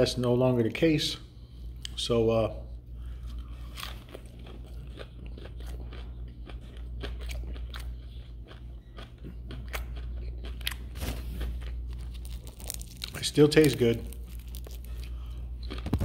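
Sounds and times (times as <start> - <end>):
steady low hum: 0.0 - 16.0
crunchy chewing: 3.1 - 16.0.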